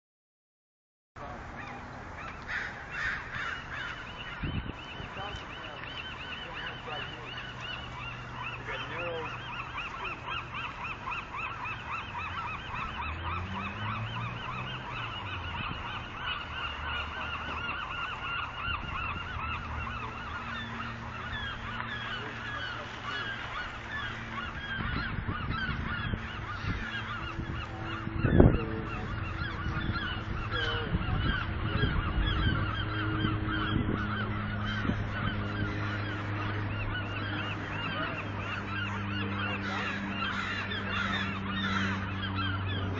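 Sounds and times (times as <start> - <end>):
flock of birds calling: 1.2 - 42.9.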